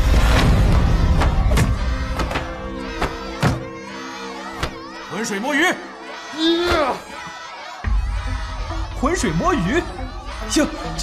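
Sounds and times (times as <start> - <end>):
background music with held notes: 0.5 - 11.0.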